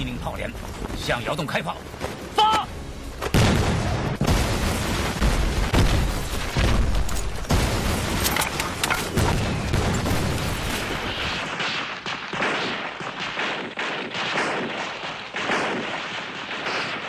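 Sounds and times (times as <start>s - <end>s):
artillery explosions booming: 3.2s - 17.0s
gunfire: 3.3s - 17.0s.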